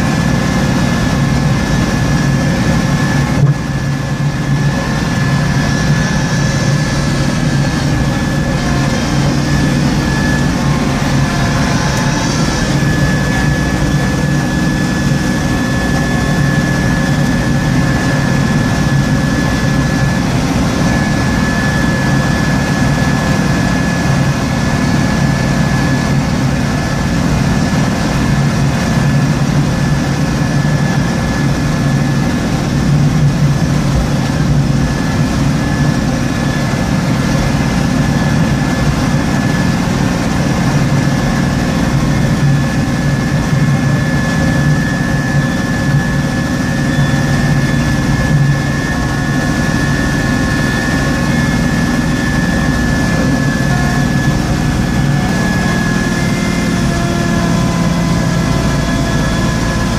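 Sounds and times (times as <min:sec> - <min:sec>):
steady high whine: 0:00.0 - 0:59.9
tractor engine running: 0:00.0 - 0:59.9.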